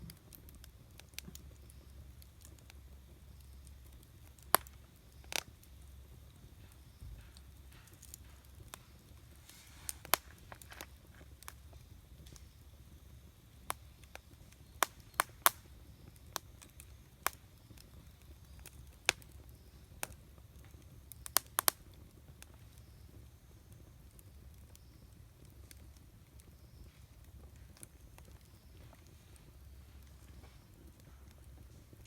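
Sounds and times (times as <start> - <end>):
campfire crackling: 0.0 - 32.0
sharp pops of fire: 0.0 - 32.0.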